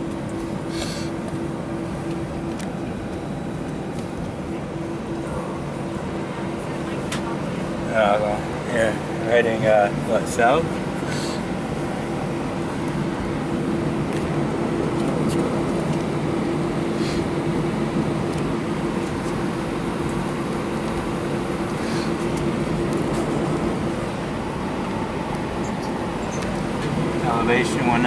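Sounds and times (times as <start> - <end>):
jet engine hum in cabin: 0.0 - 28.0.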